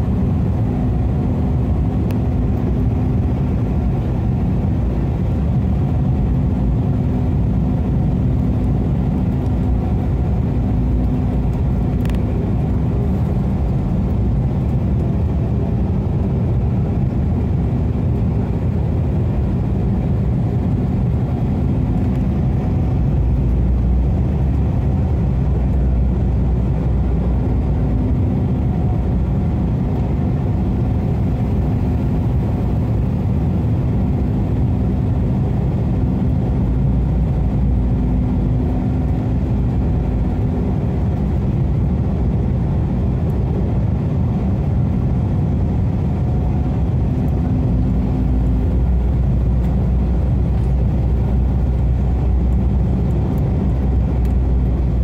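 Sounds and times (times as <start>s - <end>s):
jet engine and airflow rumble: 0.0s - 55.0s
low steady hum: 0.0s - 55.0s.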